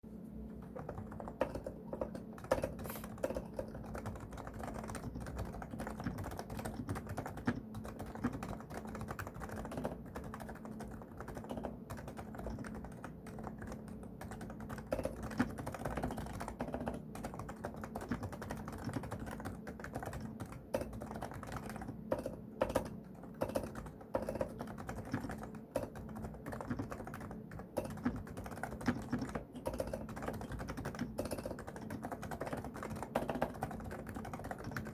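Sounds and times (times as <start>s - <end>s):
soft muted keyboard typing: 0.4s - 34.9s.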